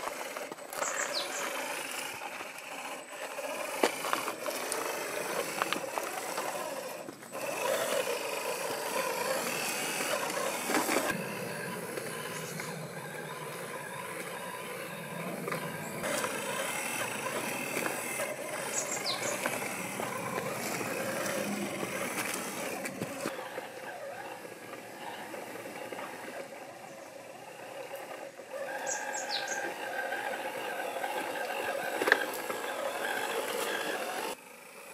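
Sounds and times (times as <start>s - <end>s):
tyres scraping on stone: 0.0s - 34.4s
rc car motor whirring: 0.0s - 34.9s.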